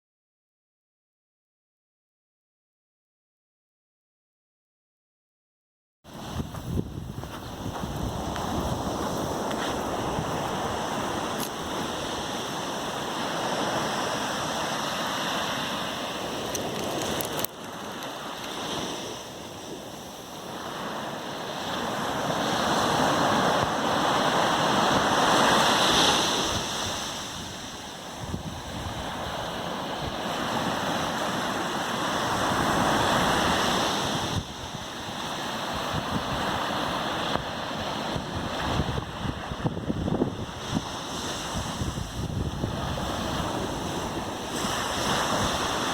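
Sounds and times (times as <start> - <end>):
surf breaking on a beach: 6.1 - 45.9.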